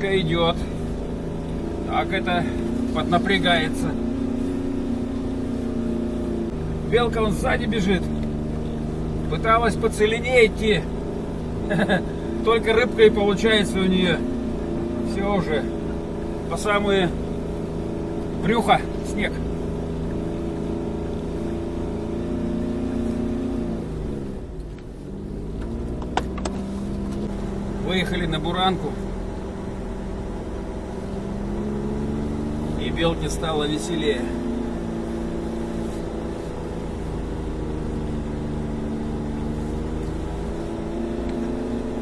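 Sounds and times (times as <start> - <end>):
snowmobile engine running: 0.0 - 42.0.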